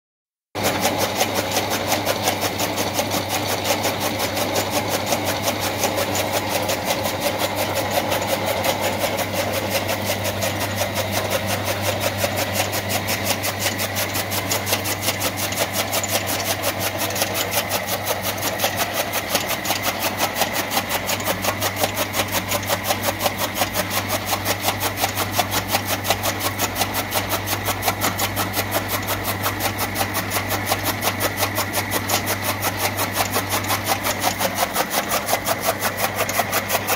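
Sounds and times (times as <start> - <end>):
chaff cutter blades chopping: 0.6 - 36.9
electric motor hum: 0.6 - 36.9.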